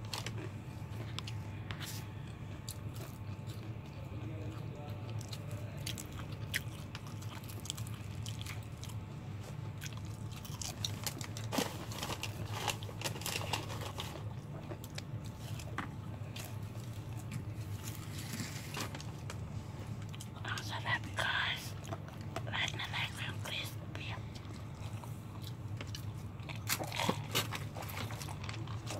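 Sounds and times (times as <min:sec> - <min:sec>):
crunching fried chicken: 0:00.0 - 0:23.3, 0:24.0 - 0:28.9
steady low hum: 0:00.0 - 0:28.9.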